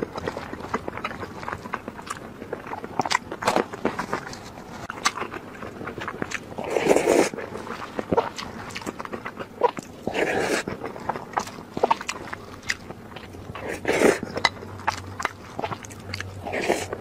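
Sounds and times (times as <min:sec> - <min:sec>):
chewing smacks and clicks: 0:00.0 - 0:17.0
slurping noodles: 0:00.0 - 0:17.0.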